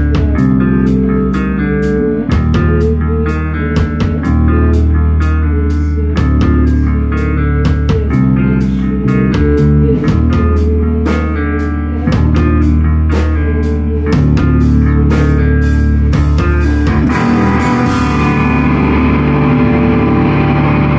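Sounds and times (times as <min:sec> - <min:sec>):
drum kit beat: 0:00.0 - 0:20.9
electric guitars holding chords: 0:00.0 - 0:20.9.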